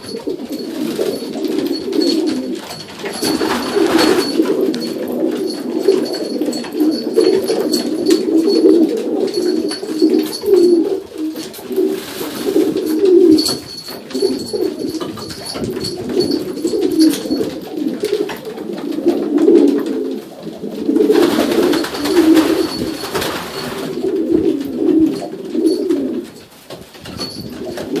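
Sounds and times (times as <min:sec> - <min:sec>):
pigeons cooing: 0:00.0 - 0:26.4, 0:27.2 - 0:28.0.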